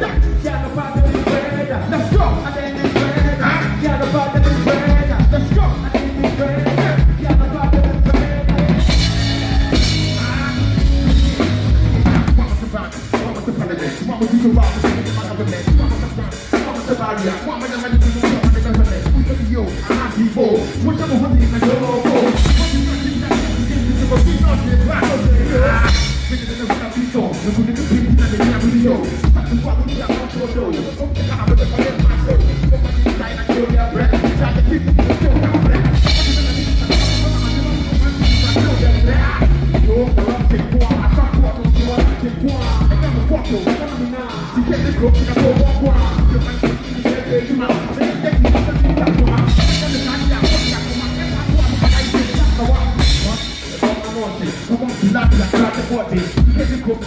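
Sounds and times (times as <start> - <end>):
live band playing: 0.0 - 57.0.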